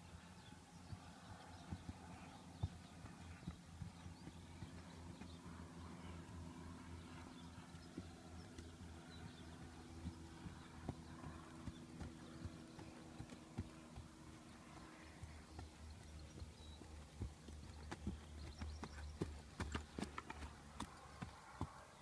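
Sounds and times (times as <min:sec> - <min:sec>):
horse hoofbeats on grass: 0:00.4 - 0:22.0.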